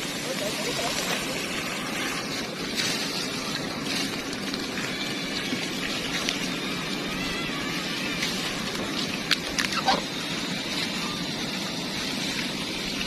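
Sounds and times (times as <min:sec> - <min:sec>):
water spraying from a hose: 0:00.0 - 0:13.0.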